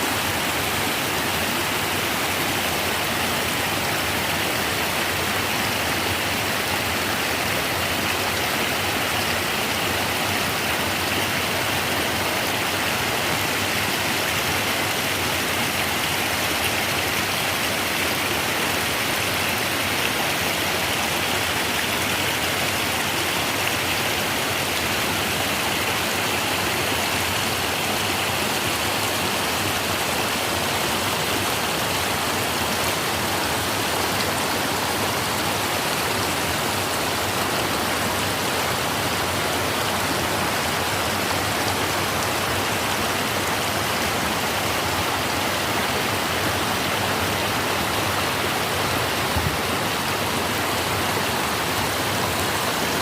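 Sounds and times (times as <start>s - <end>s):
waterfall pouring: 0.0s - 53.0s.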